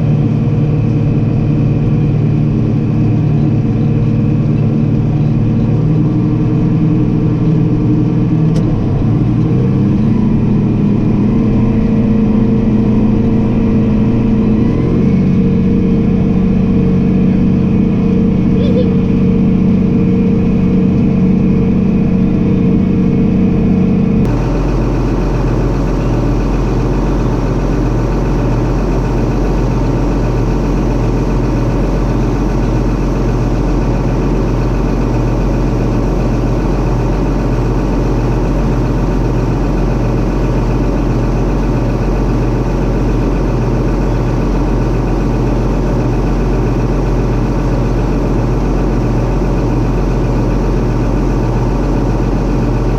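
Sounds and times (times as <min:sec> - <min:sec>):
deep pulsing hum: 0:00.0 - 0:52.9
harvester engine running: 0:00.0 - 0:52.9.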